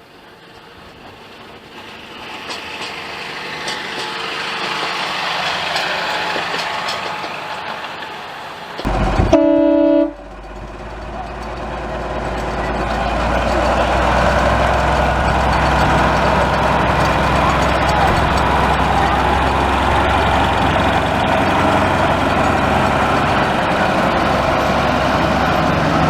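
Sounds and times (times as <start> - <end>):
diesel locomotive engine droning: 0.0 - 26.0.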